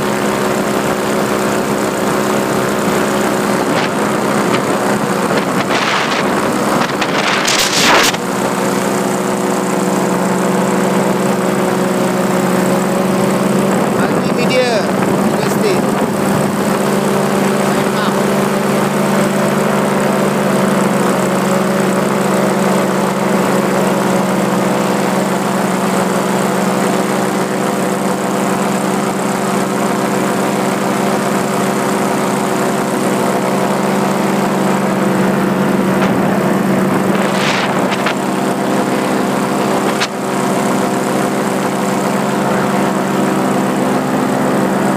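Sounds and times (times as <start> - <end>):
paramotor engine droning: 0.0 - 44.9.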